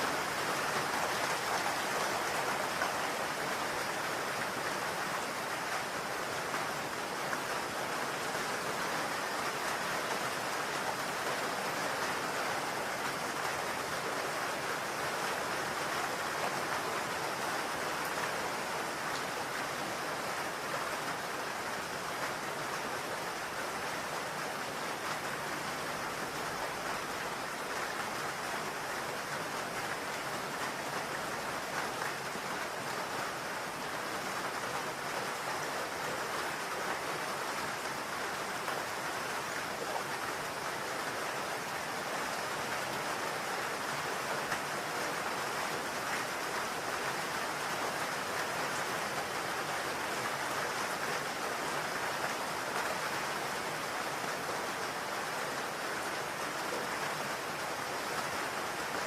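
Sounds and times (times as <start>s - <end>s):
rain on a roof: 0.0s - 59.0s.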